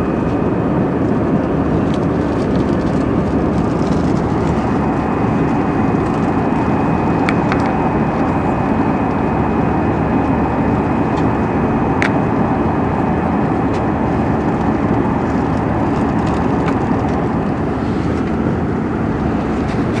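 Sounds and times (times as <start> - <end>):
airliner engine drone: 0.0 - 20.0.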